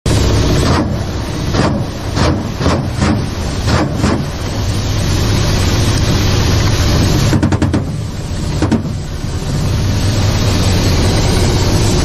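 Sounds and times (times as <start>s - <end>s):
helicopter turbines and rotors droning: 0.1s - 12.0s
rushing wind: 0.1s - 12.0s.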